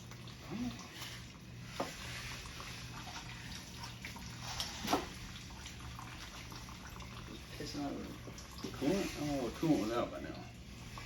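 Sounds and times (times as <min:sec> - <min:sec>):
engine fluid trickling and dripping: 0:00.0 - 0:11.0.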